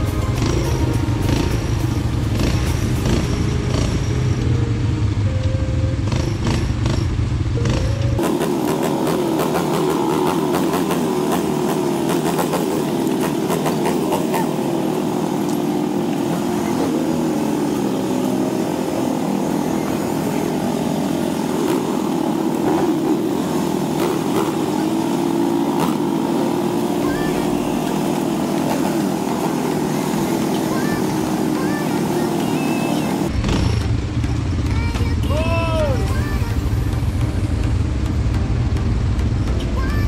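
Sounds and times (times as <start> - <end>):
atv engine revving: 0.0 - 40.0.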